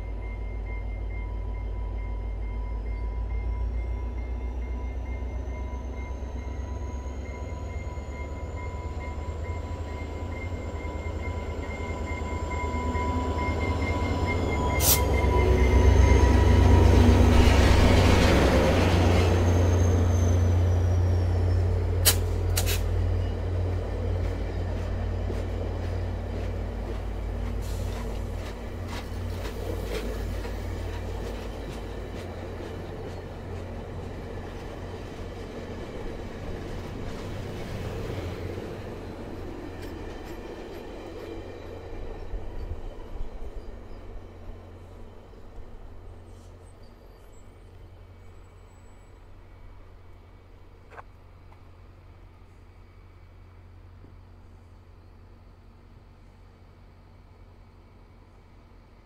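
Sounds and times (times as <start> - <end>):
train wheels rumbling: 0.0 - 52.3
diesel locomotive engine: 0.0 - 59.0.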